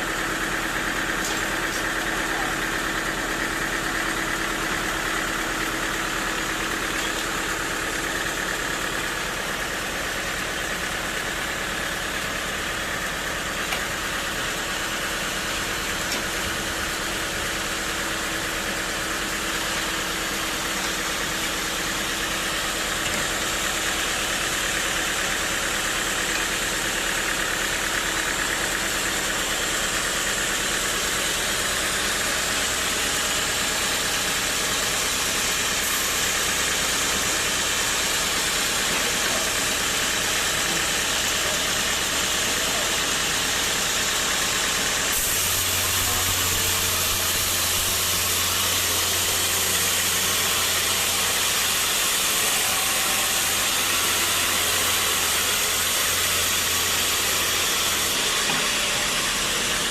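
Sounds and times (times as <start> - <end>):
sawmill machinery hissing: 0.0 - 59.9.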